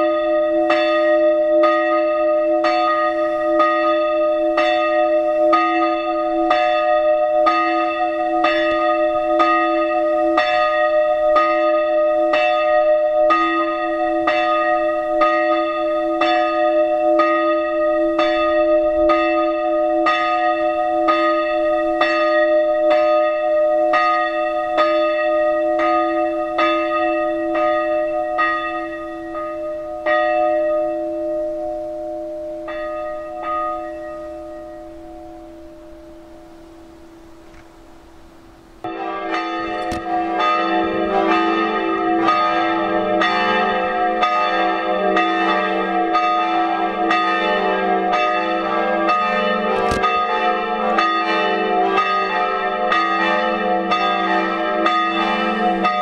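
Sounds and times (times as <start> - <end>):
church bells ringing: 0.0 - 38.0, 38.8 - 56.0.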